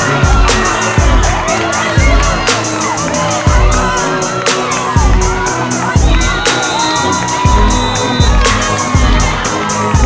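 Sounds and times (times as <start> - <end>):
children shouting: 0.0 - 10.0
crowd cheering: 0.0 - 10.0
music with steady beat: 0.0 - 10.0.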